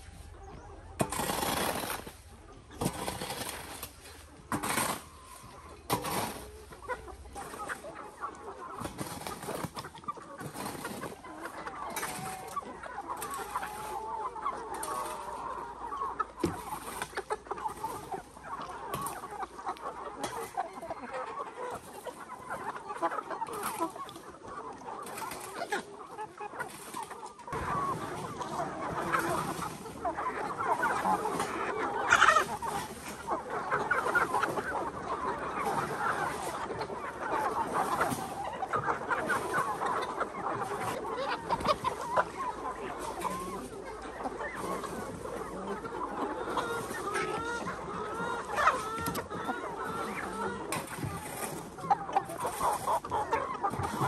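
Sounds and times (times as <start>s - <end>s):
chickens clucking: 0.0s - 54.0s
rake scraping dry dirt: 0.0s - 54.0s.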